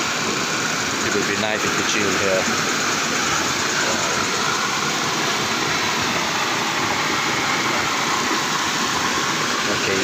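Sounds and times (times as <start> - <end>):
small waterfall rushing: 0.0 - 10.0.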